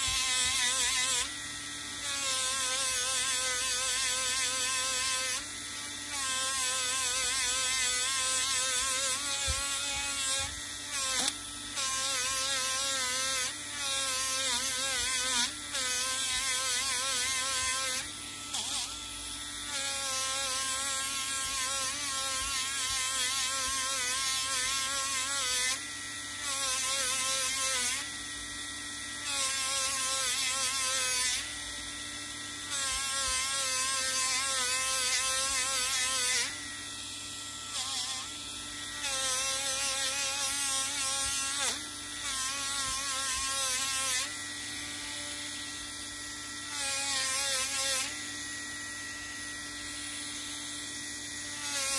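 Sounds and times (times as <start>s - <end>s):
rotary tool motor whine: 0.0s - 51.9s.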